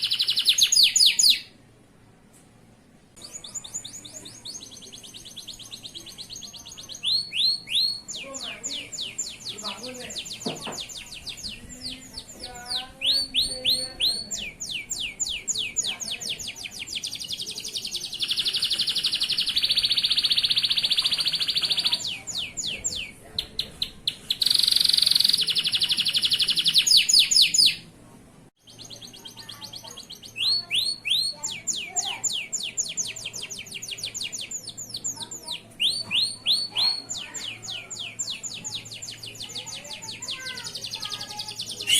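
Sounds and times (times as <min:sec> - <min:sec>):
canary singing: 0:00.0 - 0:01.6, 0:03.2 - 0:27.9, 0:28.6 - 0:41.9.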